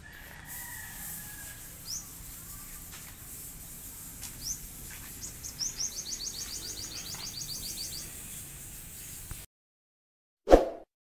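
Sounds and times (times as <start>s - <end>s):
steady high hiss: 0.0s - 9.5s.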